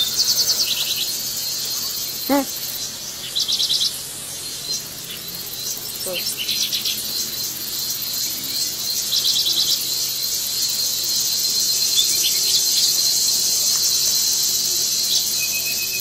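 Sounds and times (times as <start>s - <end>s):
insect chorus: 0.0s - 16.0s
rapid insect chirps: 0.0s - 16.0s.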